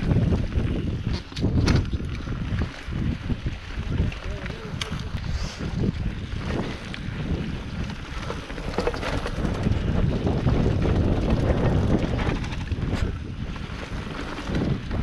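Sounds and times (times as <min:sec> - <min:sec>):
bike rattling over bumps: 0:00.0 - 0:15.0
tyres rumbling on dirt: 0:00.0 - 0:15.0
wind buffeting microphone: 0:00.0 - 0:15.0.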